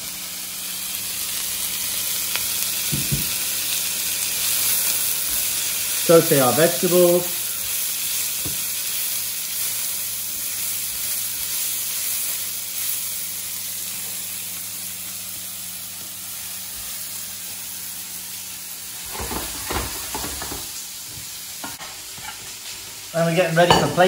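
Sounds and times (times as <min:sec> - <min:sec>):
vegetables sizzling in a pan: 0:00.0 - 0:24.0.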